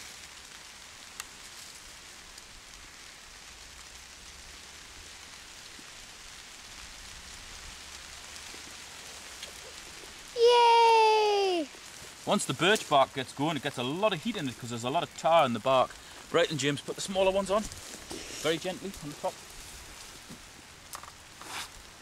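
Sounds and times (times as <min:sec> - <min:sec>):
light rain on leaf litter: 0:00.0 - 0:22.0.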